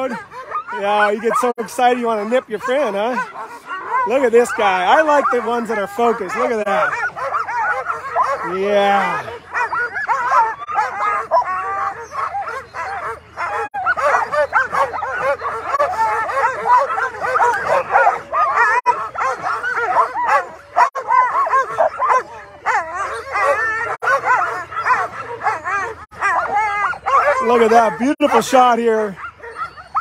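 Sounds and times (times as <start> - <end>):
sled dogs yelping and whining: 0.0 - 30.0.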